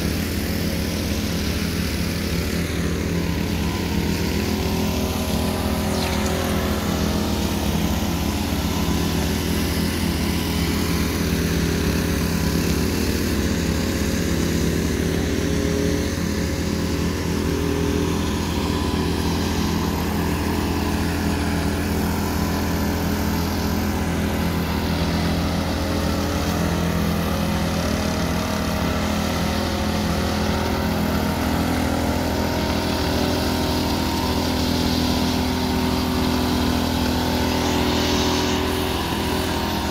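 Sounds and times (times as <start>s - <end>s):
power trowel engines humming: 0.0s - 39.9s.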